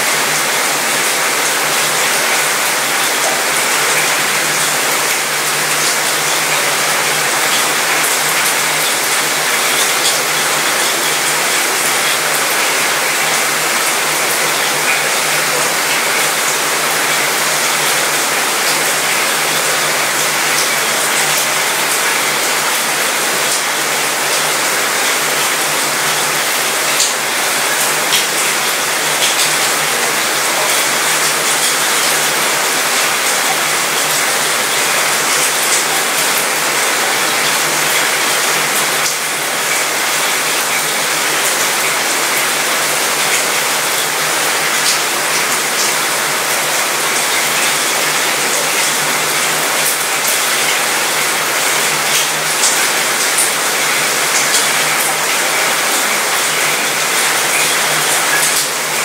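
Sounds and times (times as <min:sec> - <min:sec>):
rain pattering on metal: 0:00.0 - 0:59.0.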